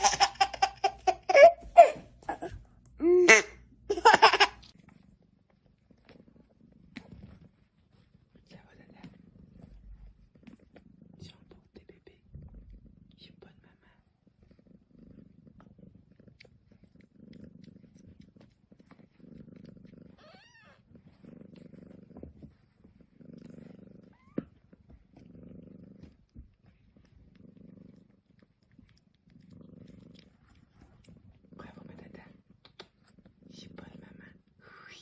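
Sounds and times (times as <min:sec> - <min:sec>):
cat purring: 0:03.7 - 0:35.0.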